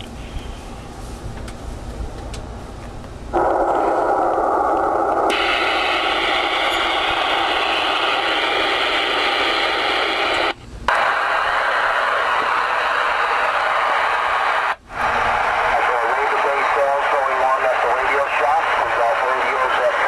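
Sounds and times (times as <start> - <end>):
radio static hiss: 3.3 - 20.0.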